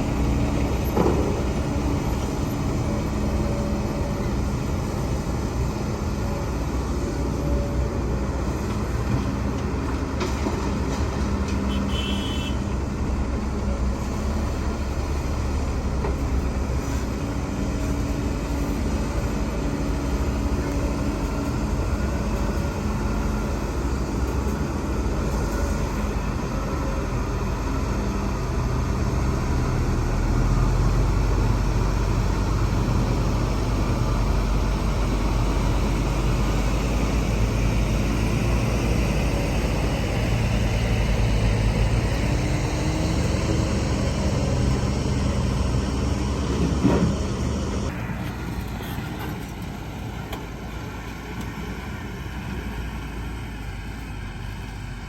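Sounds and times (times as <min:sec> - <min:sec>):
diesel earthmoving machinery engine: 0:00.0 - 0:55.0.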